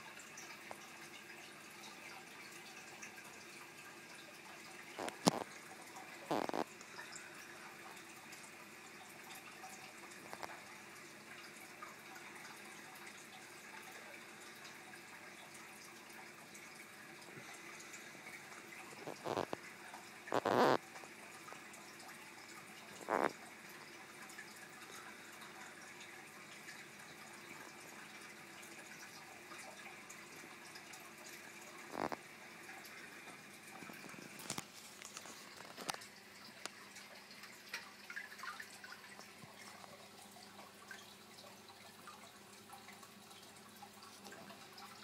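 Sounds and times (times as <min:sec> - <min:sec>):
aquarium water running: 0:00.0 - 0:45.0.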